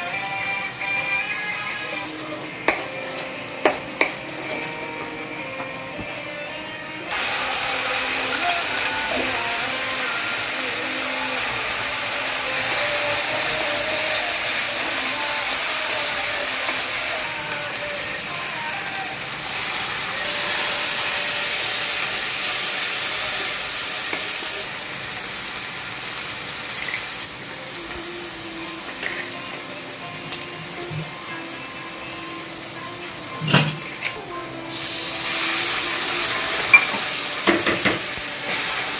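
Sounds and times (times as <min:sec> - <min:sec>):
food sizzling in oil: 0:00.0 - 0:38.9.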